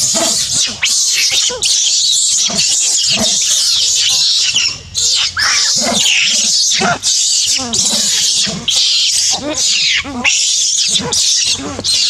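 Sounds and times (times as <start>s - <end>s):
baby monkeys screaming: 0.0s - 12.0s.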